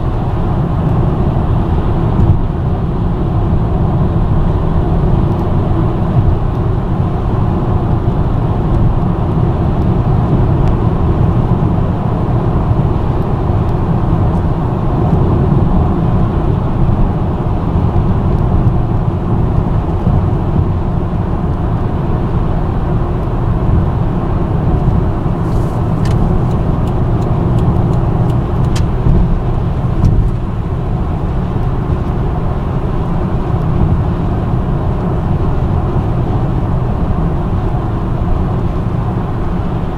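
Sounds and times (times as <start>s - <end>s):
car road noise and engine drone: 0.0s - 39.9s.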